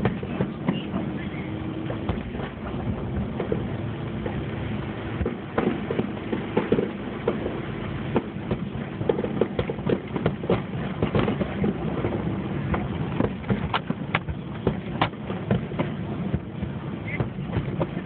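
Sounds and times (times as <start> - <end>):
fireworks bangs and pops: 0.0 - 4.6, 5.2 - 18.0
continuous fireworks rumble: 0.0 - 18.0.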